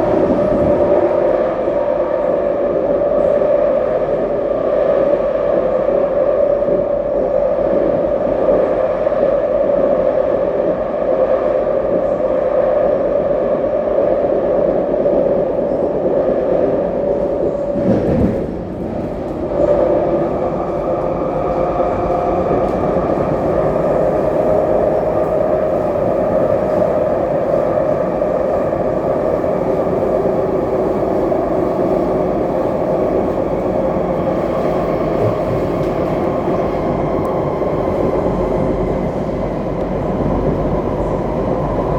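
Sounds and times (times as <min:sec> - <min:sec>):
train wheels rumbling: 0:00.0 - 0:09.7, 0:13.6 - 0:41.9.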